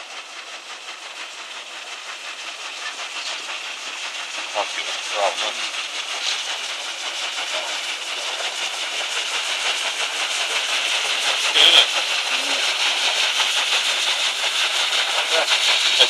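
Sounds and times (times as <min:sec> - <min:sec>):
paddle wheels churning: 0:00.0 - 0:16.0
steam machinery hissing: 0:00.0 - 0:16.0.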